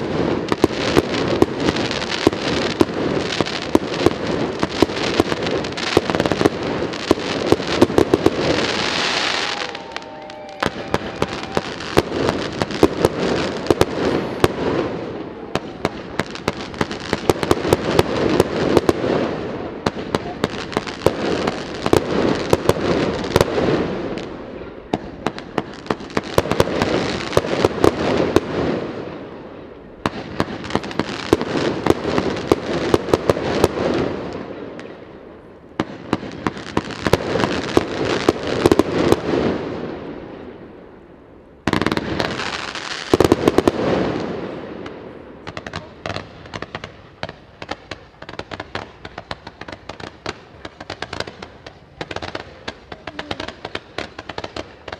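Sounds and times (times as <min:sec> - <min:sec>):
continuous hiss: 0:00.0 - 0:54.9
fireworks cracks and bangs: 0:00.0 - 0:54.9.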